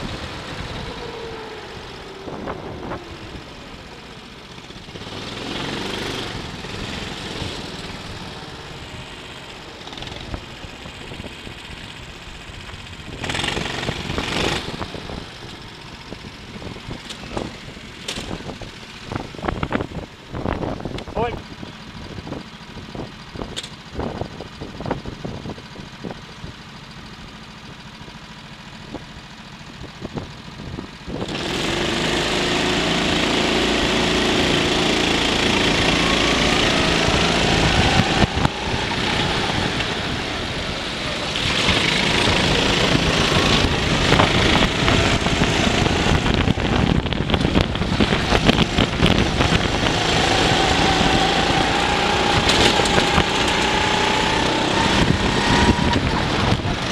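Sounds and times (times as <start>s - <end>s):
go-kart engine: 0.0s - 56.9s.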